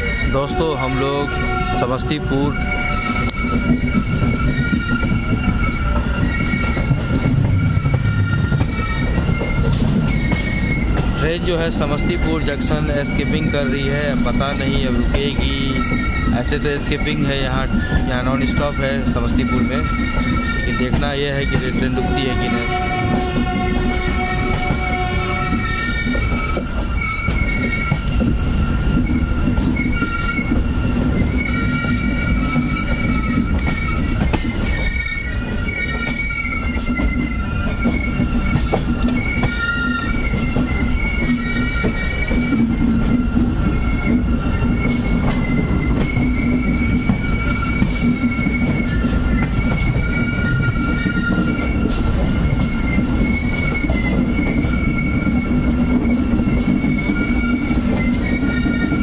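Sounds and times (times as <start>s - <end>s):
high wheel squeal: 0.0s - 59.0s
rail-joint clatter: 0.0s - 59.0s
train wheels rumbling on rails: 0.0s - 59.0s.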